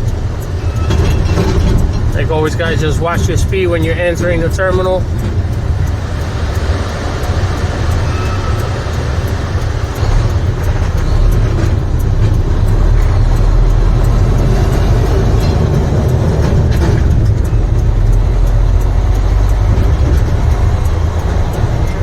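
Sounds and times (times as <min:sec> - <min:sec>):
road noise: 0:00.0 - 0:22.0
truck diesel engine rumble: 0:00.0 - 0:22.0.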